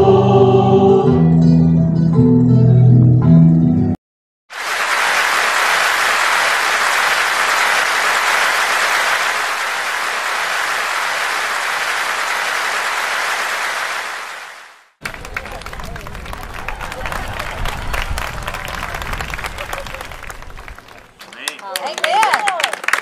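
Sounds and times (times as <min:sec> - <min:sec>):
audience applauding: 0:04.5 - 0:23.0.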